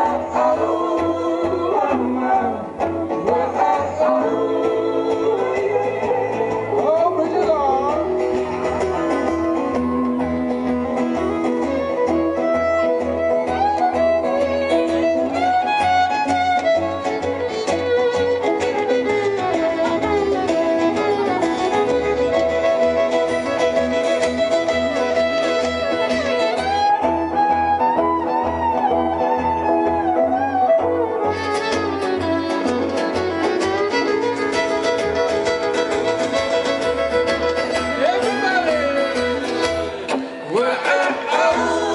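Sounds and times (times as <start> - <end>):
fiddle melody: 0.0 - 40.2
strummed guitar: 0.0 - 41.9.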